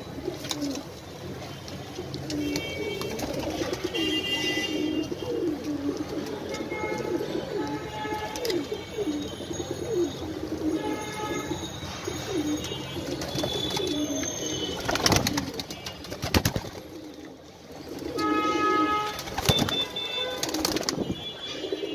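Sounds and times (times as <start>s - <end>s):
pigeons cooing: 0.1s - 21.9s.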